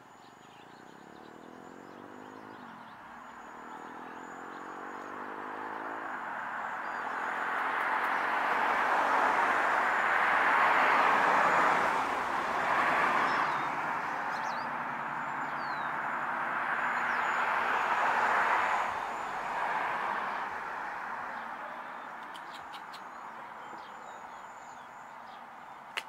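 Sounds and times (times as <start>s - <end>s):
passing vehicles rushing: 0.2s - 26.0s.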